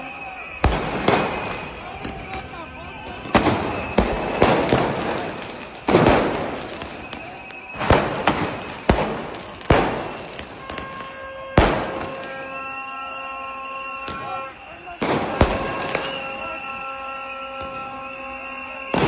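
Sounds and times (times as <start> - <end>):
fireworks exploding with sharp bangs: 0.0 - 19.0.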